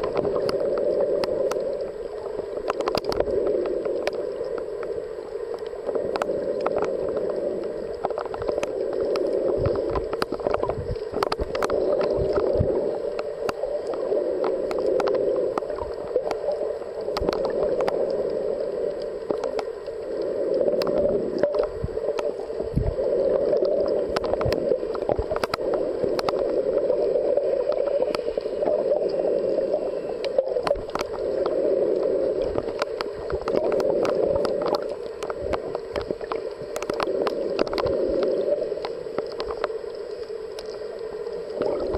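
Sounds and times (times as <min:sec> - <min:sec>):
muffled underwater rush: 0:00.0 - 0:41.9
sharp underwater clicks and pops: 0:00.0 - 0:41.9.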